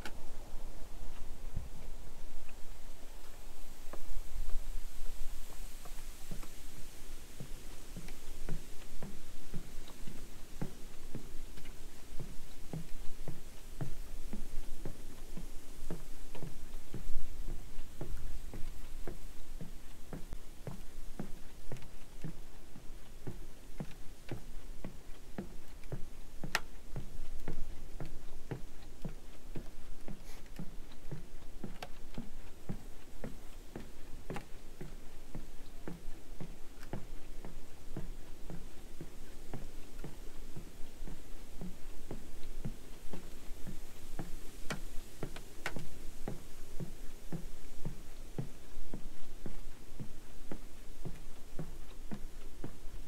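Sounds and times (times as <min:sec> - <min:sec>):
footsteps on wooden boardwalk: 0:00.0 - 0:53.0.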